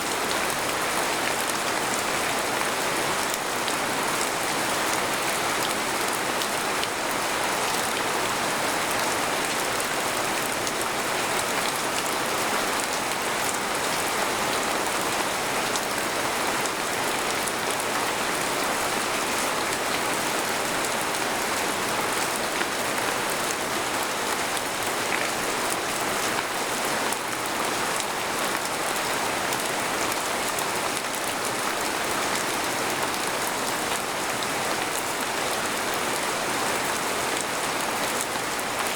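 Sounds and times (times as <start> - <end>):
rain on a tent: 0.0 - 38.9.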